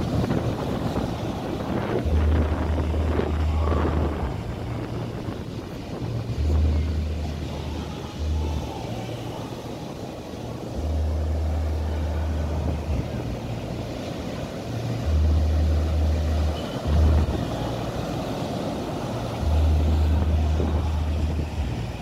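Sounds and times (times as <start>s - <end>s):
surf crashing on rocks: 0.0s - 22.0s
wind rumble on microphone: 0.0s - 22.0s.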